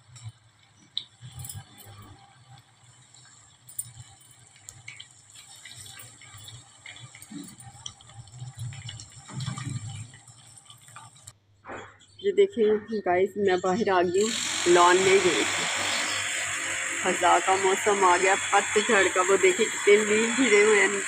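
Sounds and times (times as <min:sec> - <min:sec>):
oil sizzling and crackling: 0:00.0 - 0:11.4, 0:14.2 - 0:21.0.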